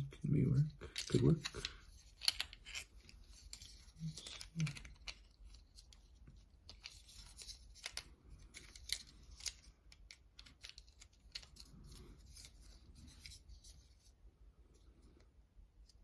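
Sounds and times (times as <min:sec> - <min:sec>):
fingers handling small parts: 0:00.1 - 0:16.0.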